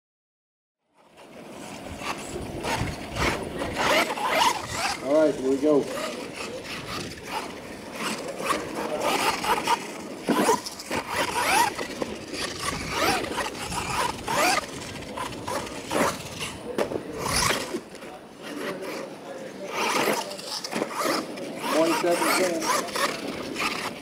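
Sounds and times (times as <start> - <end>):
toy truck electric motors whining: 1.0 - 24.0
tyres scrabbling on dirt: 1.1 - 24.0.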